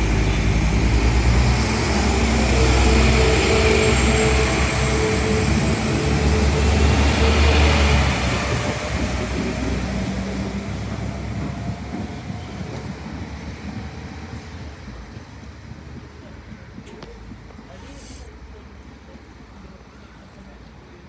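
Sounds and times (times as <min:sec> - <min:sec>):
diesel train engine: 0:00.0 - 0:21.0.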